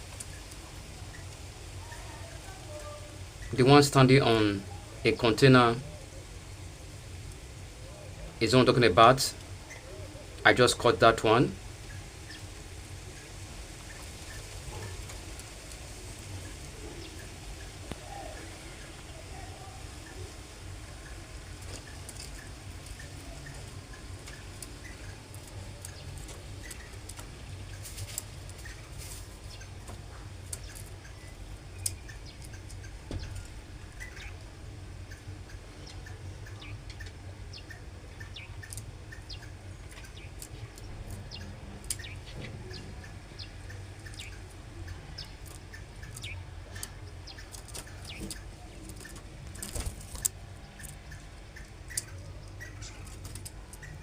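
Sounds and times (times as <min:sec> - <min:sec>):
canaries chirping: 0:00.0 - 0:54.0
low steady rumble: 0:00.0 - 0:54.0.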